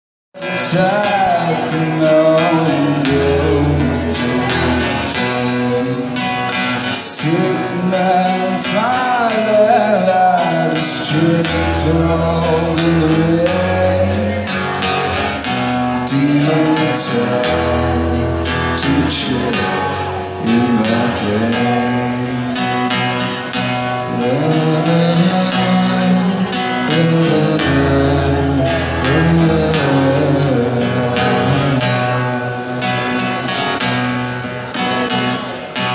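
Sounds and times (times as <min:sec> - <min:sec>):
man singing: 0:00.4 - 0:34.2
acoustic guitar: 0:00.4 - 0:35.9.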